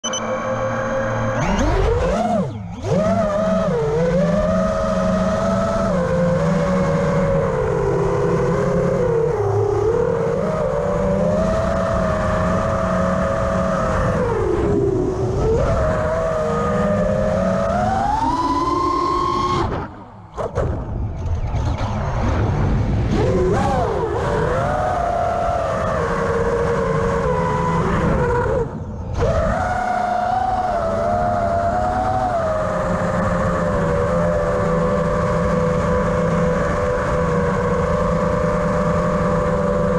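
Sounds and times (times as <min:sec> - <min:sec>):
quadcopter motors whining: 0:00.0 - 0:20.6, 0:23.1 - 0:39.9.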